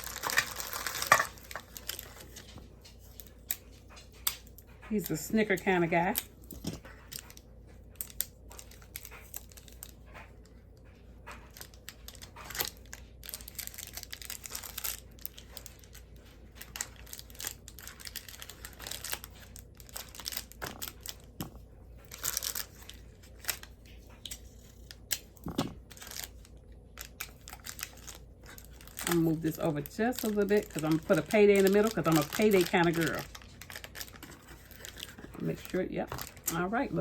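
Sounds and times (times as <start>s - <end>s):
tape being peeled: 0.0s - 4.6s, 6.1s - 37.0s
plastic wrappers crinkling: 0.0s - 37.0s.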